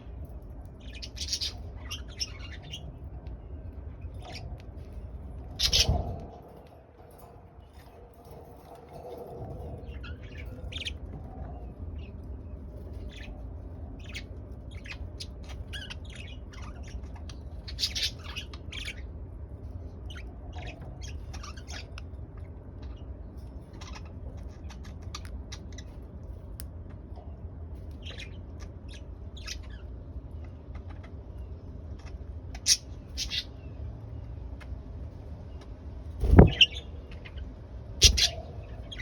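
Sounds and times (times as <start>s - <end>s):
steady low hum: 0.0s - 39.0s
budgerigars chirping and chattering: 0.7s - 3.0s, 4.0s - 11.2s, 11.9s - 19.1s, 20.0s - 26.1s, 27.9s - 33.8s, 35.6s - 39.0s.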